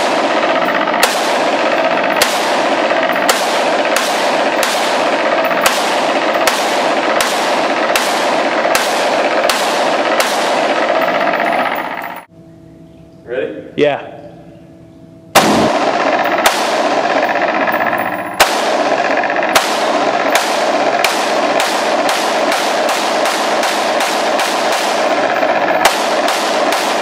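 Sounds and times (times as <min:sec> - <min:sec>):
pistol shots echoing: 0:00.0 - 0:11.5, 0:15.4 - 0:27.0.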